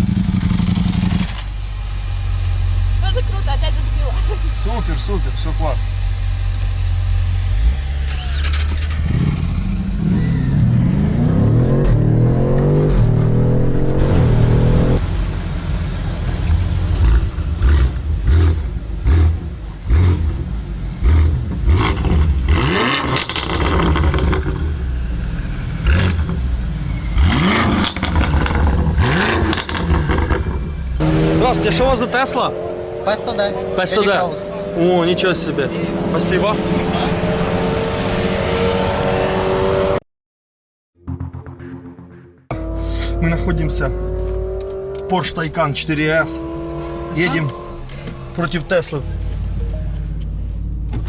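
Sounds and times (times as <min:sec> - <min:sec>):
road and wind noise: 0:00.0 - 0:40.0, 0:42.5 - 0:51.0
vehicle engine accelerating: 0:00.0 - 0:40.0, 0:41.0 - 0:51.0.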